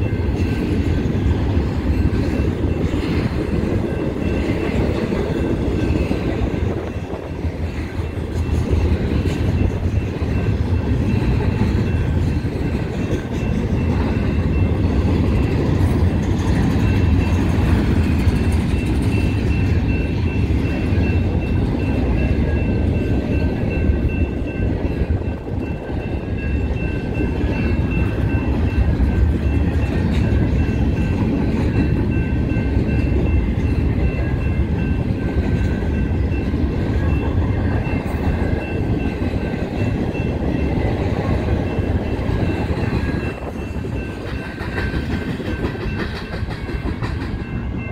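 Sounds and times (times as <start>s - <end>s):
crossing bell ringing: 0.0s - 47.9s
train wheels clattering on rails: 0.0s - 47.9s.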